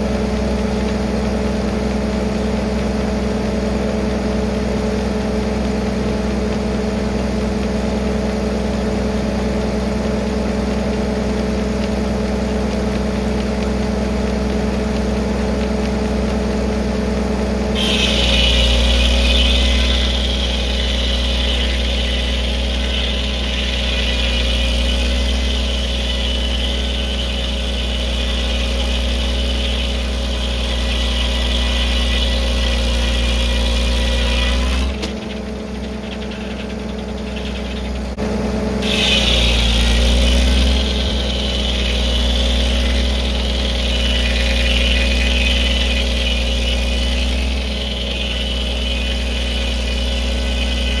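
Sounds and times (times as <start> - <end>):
saw blade whine cutting log: 0.0 - 51.0
tractor engine running: 0.0 - 51.0.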